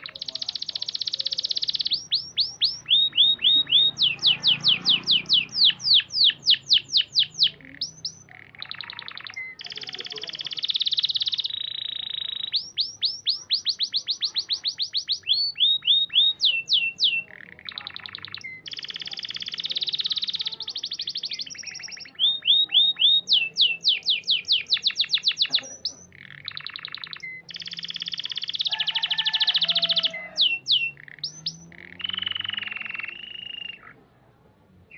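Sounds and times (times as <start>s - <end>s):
canary singing: 0.0s - 34.2s.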